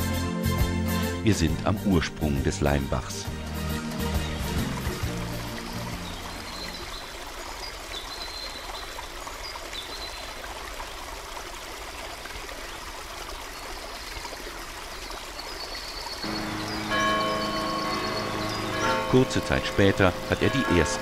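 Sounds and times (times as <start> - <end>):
brook trickling: 1.9 - 21.0.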